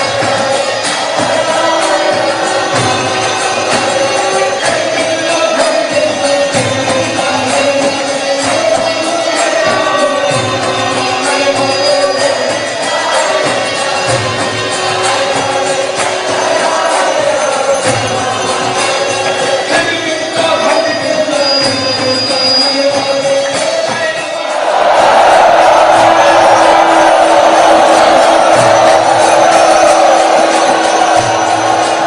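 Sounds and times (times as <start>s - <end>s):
hand cymbals striking: 0.0s - 32.0s
voices chanting a melody: 0.0s - 32.0s.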